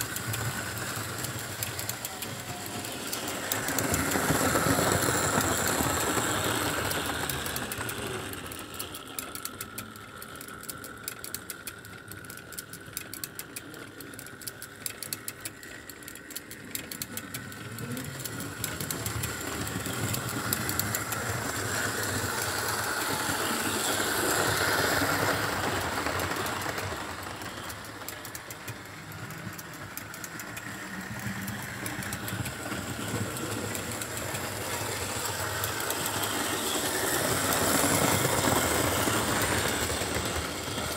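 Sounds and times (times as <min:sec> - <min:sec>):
model train motor whining: 0:00.0 - 0:40.9
wheels clicking on rails: 0:00.0 - 0:40.9.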